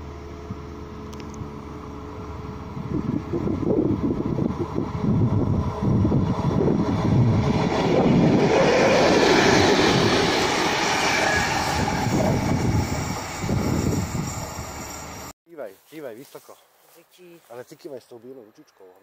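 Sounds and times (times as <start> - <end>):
diesel locomotive engine running: 0.0 - 15.4.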